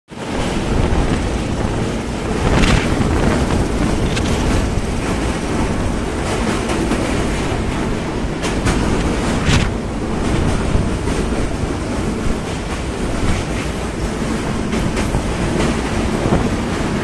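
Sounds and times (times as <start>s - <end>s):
train wheels rumbling: 0.1s - 17.0s
sharp clacks from rails: 0.2s - 17.0s
wind on microphone: 0.2s - 17.0s.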